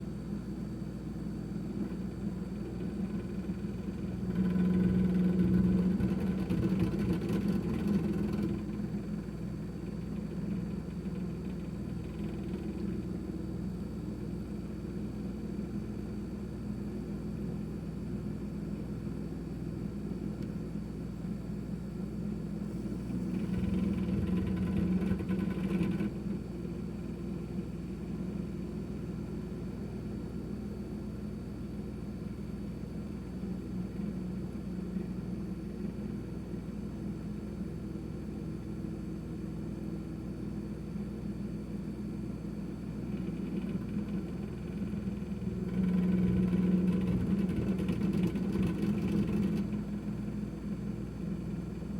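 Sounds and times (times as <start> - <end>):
refrigerator humming: 0.0 - 51.9.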